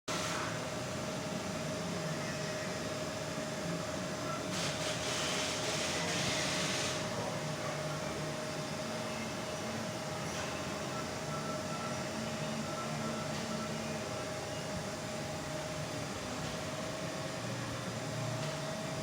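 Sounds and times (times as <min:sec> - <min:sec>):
cnc machine humming and whining: 0:00.1 - 0:19.0.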